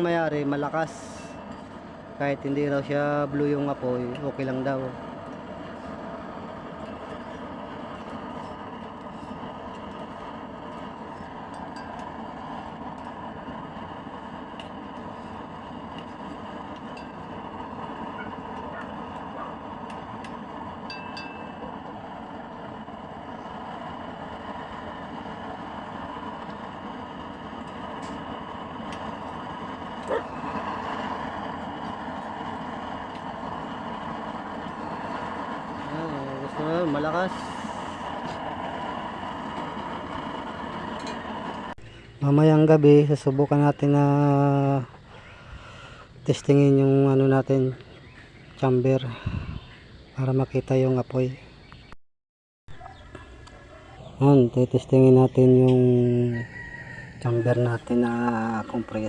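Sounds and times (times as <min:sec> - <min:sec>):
oil burner flame rushing: 0:00.0 - 0:51.9, 0:52.7 - 0:59.0.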